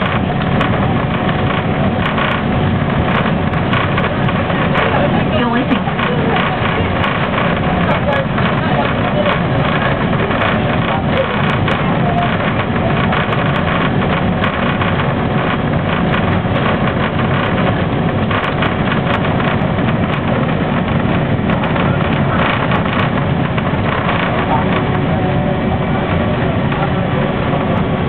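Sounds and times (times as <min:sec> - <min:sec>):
rushing drone of turbines: 0:00.0 - 0:28.0.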